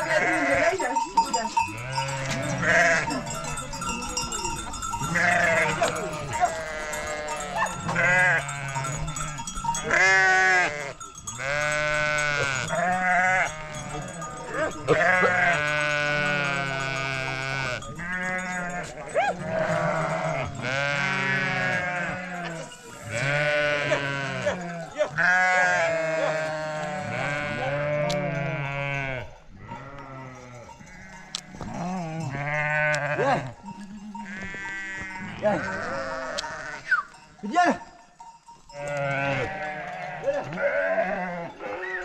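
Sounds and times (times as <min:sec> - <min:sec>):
sheep and goats bleating: 0:00.0 - 0:42.0.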